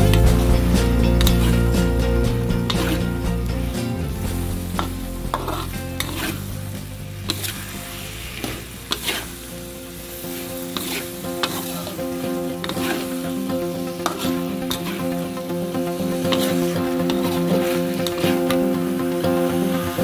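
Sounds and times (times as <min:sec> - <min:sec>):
metal spatula scraping a pan: 0:00.6 - 0:02.0, 0:02.6 - 0:03.3, 0:04.1 - 0:20.0
food sizzling in a frying pan: 0:02.6 - 0:20.0.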